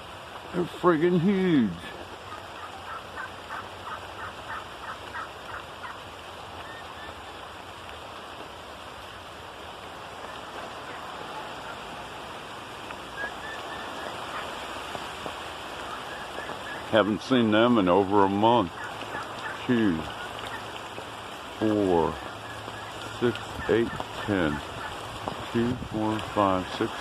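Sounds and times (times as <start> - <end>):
steady rain hissing: 0.0 - 27.0
wild turkeys calling: 1.6 - 7.8, 9.0 - 27.0.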